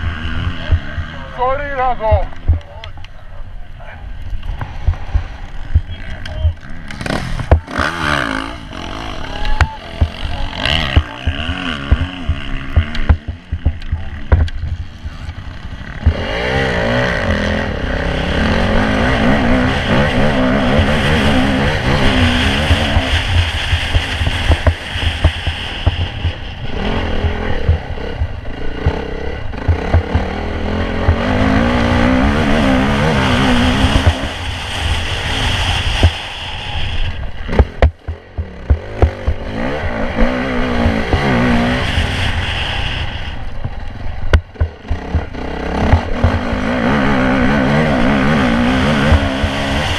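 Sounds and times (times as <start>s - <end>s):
motocross bike engine revving: 0.0s - 49.9s
wind on microphone: 7.3s - 49.9s.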